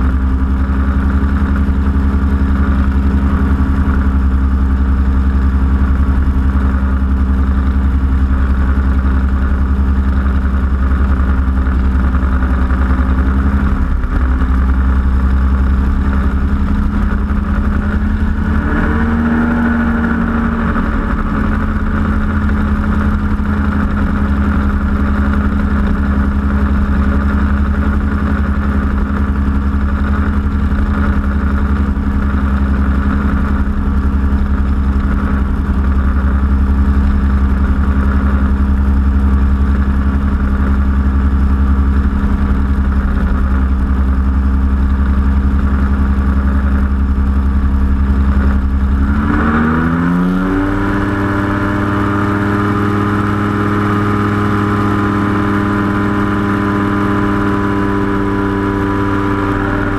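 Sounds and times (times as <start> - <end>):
engine and propeller running: 0.0 - 59.9.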